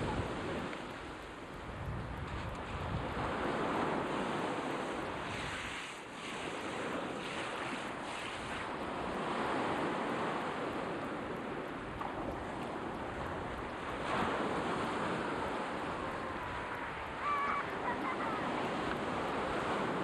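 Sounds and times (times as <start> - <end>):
surf washing onto shore: 0.0 - 20.0
wind noise on microphone: 0.0 - 20.0.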